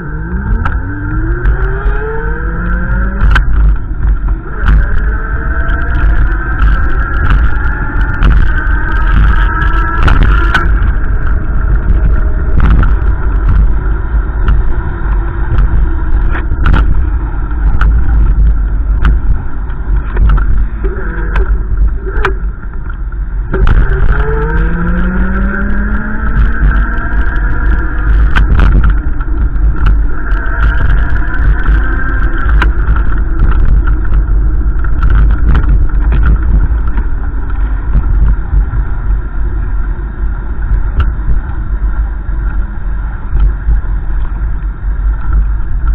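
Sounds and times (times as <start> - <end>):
car engine: 0.0 - 45.9
road rumble: 0.0 - 45.9.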